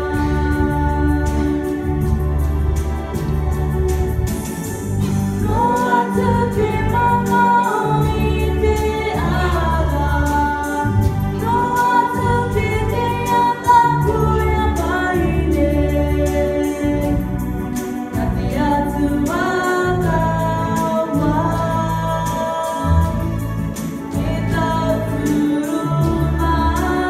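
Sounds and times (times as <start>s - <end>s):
woman singing a hymn: 0.0s - 2.1s, 5.4s - 17.4s, 18.1s - 23.4s, 24.1s - 27.0s.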